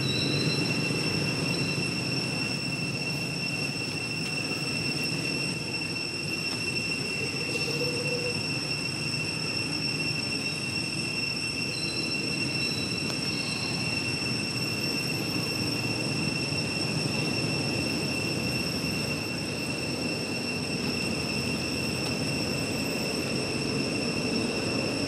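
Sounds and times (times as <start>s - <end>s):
high-pitched drone: 0.0s - 25.0s.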